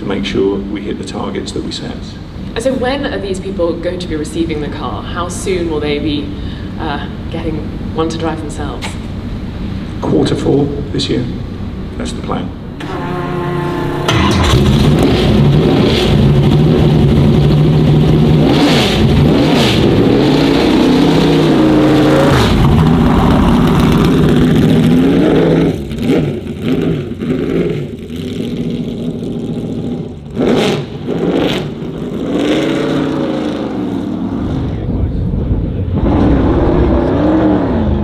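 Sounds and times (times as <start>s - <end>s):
race car engine revving: 0.0s - 38.0s
sharp exhaust cracks: 2.2s - 38.0s.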